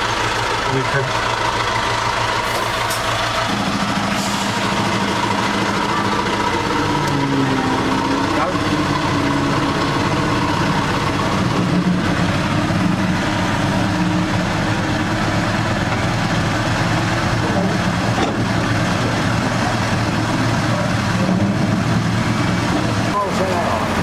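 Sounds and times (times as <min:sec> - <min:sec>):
diesel locomotive engine running: 0:00.0 - 0:24.0.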